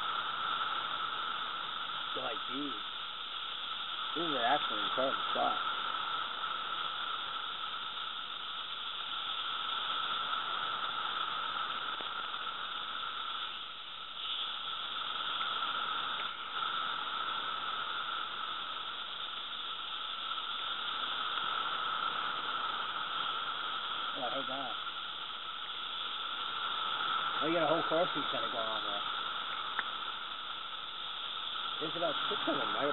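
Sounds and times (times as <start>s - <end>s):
cicadas droning: 0.0s - 32.9s.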